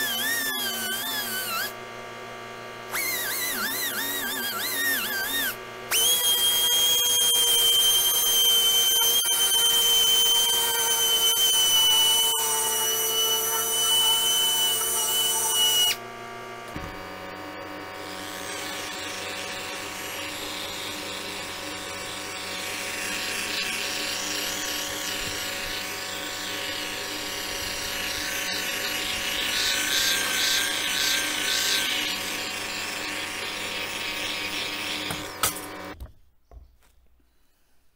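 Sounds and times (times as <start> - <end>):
power sander motor whining: 0.0 - 36.0.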